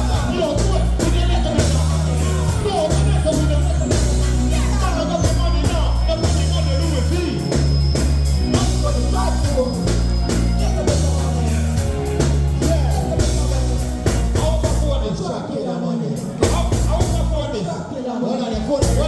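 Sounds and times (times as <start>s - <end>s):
drum beat: 0.0s - 15.1s, 16.4s - 17.4s
heavy bass line: 0.0s - 15.2s, 16.3s - 17.5s, 18.6s - 19.0s
person singing: 0.0s - 17.4s.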